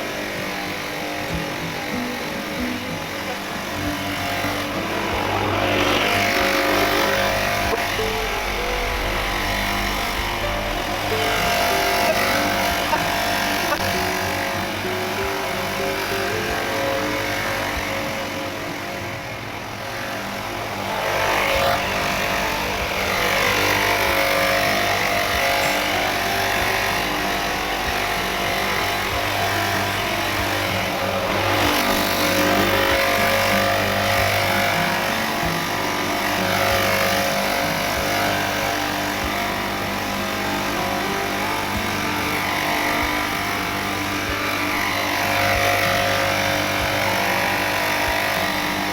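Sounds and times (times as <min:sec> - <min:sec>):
motor running: 0:00.0 - 0:48.9.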